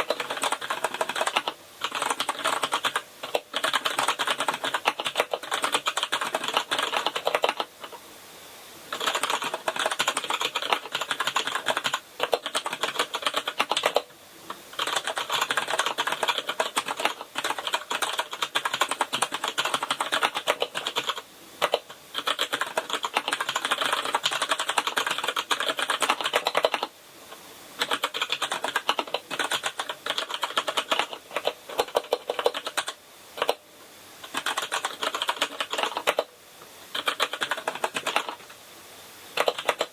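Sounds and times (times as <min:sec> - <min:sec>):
fast typing on mechanical keyboard: 0:00.0 - 0:08.0, 0:08.9 - 0:14.1, 0:14.7 - 0:26.9, 0:27.8 - 0:33.6, 0:34.2 - 0:36.3, 0:36.9 - 0:38.5, 0:39.4 - 0:39.9.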